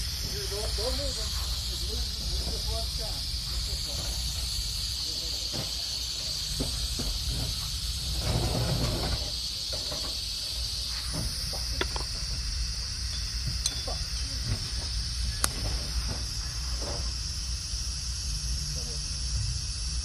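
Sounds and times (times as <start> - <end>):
welding arc crack: 0.0 - 18.3
welding torch hiss: 0.0 - 20.0.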